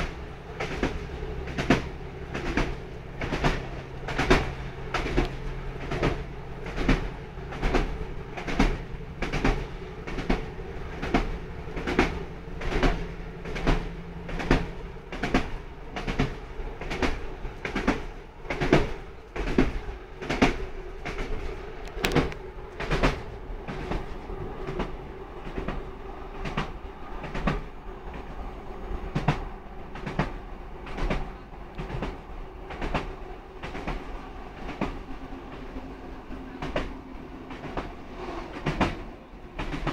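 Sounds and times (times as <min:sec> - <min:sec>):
train wheels clacking over rail joints: 0:00.0 - 0:28.4, 0:29.0 - 0:39.9
train hum: 0:00.0 - 0:39.9.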